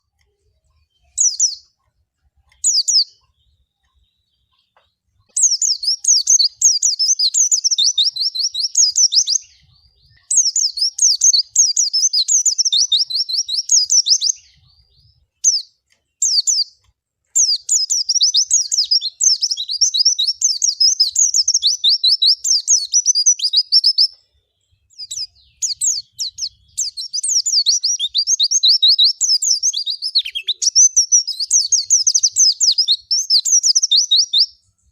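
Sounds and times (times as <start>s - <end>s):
bird chirping and twittering: 0.0s - 34.9s.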